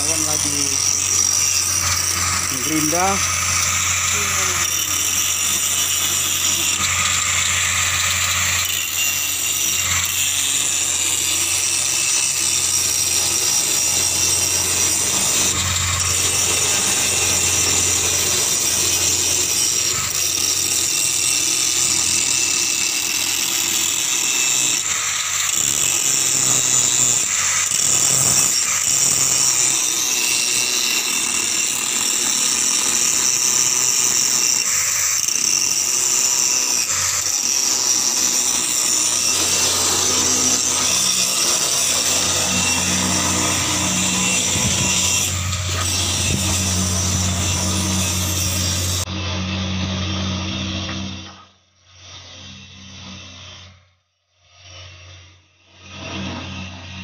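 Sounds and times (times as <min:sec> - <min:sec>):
angle grinder grinding: 0:00.0 - 0:53.8.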